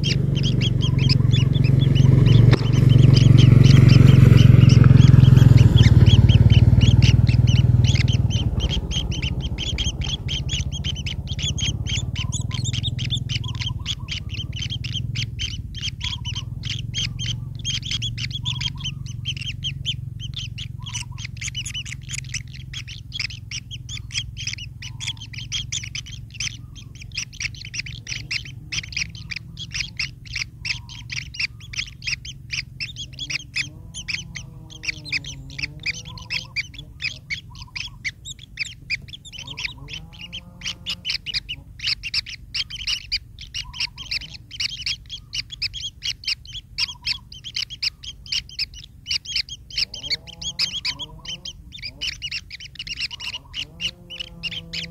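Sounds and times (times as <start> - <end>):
nestlings chirping rapidly: 0.0 - 54.9
wavering rising and falling calls: 0.0 - 54.9.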